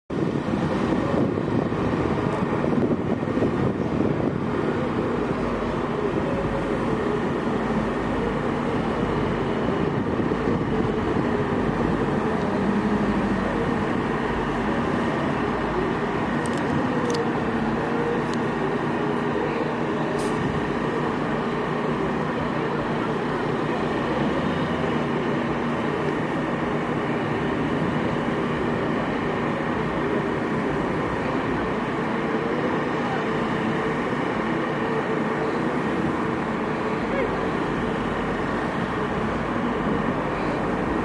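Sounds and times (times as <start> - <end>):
truck engines running: 0.1 - 41.0.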